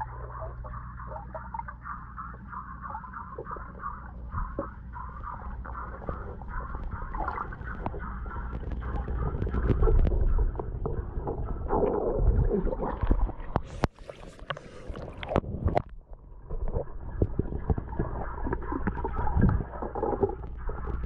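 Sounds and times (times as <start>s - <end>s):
muffled underwater water sloshing: 0.0s - 21.0s.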